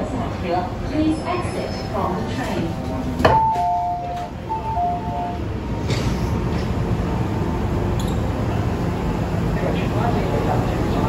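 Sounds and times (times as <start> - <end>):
station and train noise: 0.0 - 11.0.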